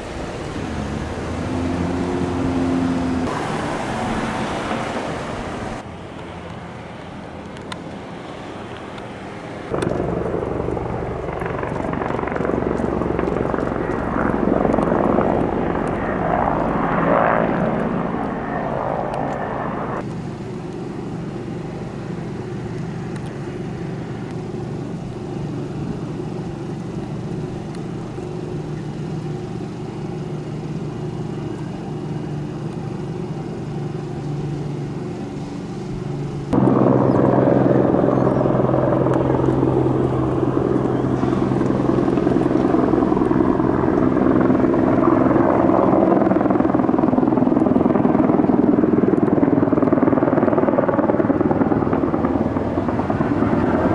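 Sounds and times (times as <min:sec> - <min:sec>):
helicopter flying over: 0:00.0 - 0:53.9
quiet steady drone: 0:00.0 - 0:53.9.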